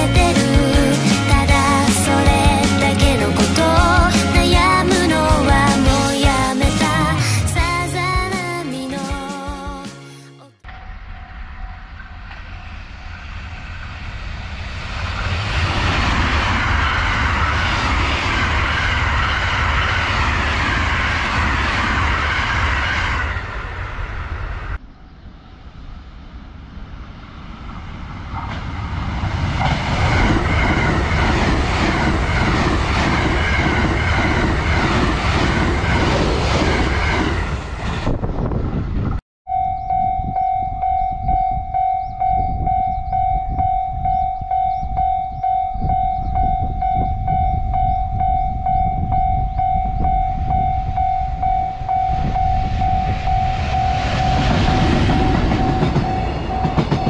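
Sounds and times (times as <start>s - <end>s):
rhythmic clatter of train wheels: 0.0s - 7.0s, 10.6s - 24.1s, 27.4s - 38.2s, 41.8s - 57.0s
trains passing: 0.0s - 10.0s, 10.6s - 57.0s.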